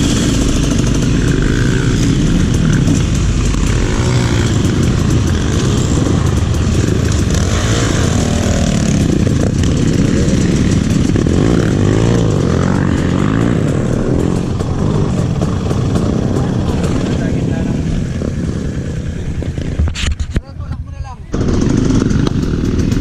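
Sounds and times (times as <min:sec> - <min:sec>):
motorcycle engine revving: 0:00.0 - 0:20.0, 0:21.3 - 0:23.0
steady rushing noise: 0:00.0 - 0:23.0.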